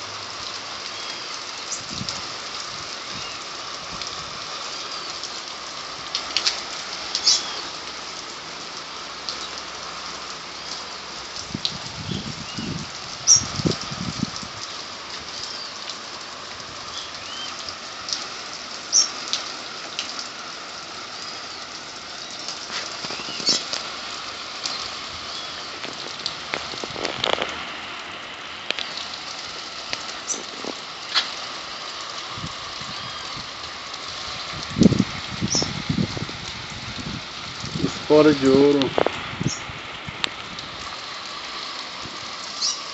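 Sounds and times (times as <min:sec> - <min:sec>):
steady rain falling: 0:00.0 - 0:42.9
water drips and splashes: 0:00.0 - 0:42.9.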